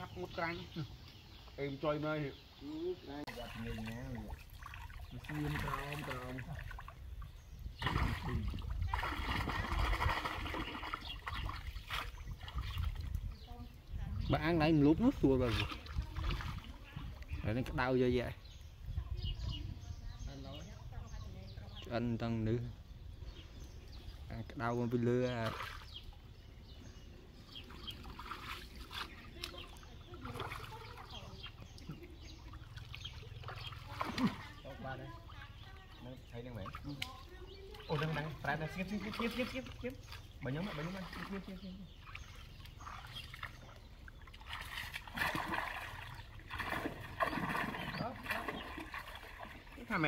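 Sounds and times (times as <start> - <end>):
muddy water sloshing and splashing: 0.0 - 22.0, 23.2 - 50.0.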